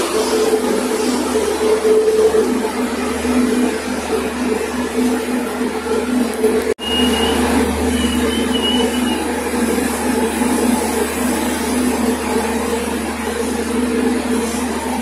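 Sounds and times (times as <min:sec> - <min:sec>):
train coaches rolling past: 0:00.0 - 0:15.0.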